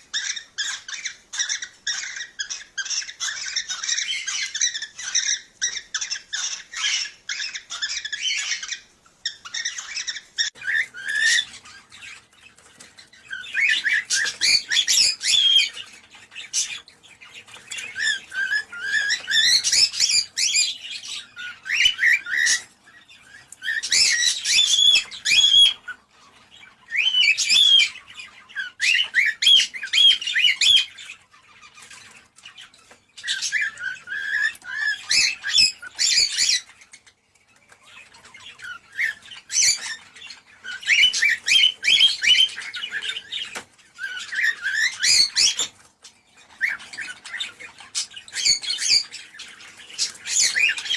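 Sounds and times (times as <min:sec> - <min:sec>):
cockatiels chirping and warbling: 0:00.0 - 0:50.9.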